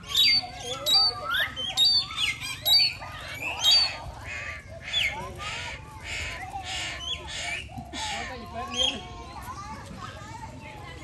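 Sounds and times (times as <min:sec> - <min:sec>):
parrots screeching: 0:00.0 - 0:09.0
parrots squawking: 0:00.0 - 0:09.0.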